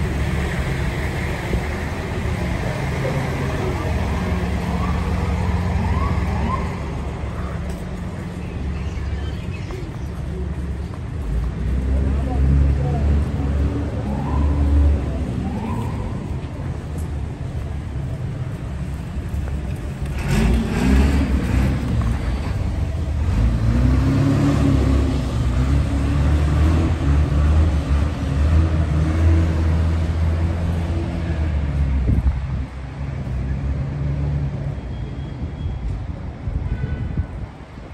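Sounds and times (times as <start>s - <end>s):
low traffic rumble: 0.0s - 37.9s
vehicle engines passing: 0.0s - 37.9s.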